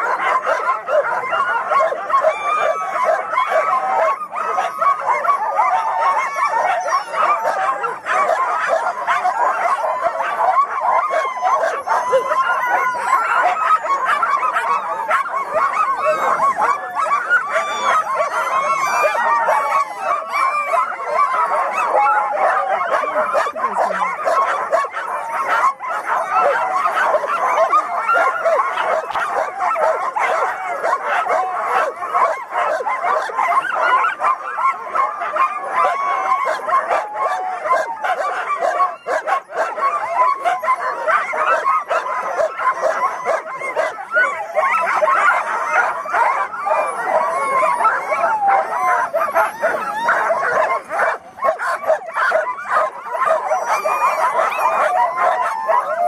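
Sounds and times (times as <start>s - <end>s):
sled dogs barking and howling: 0.0s - 56.0s.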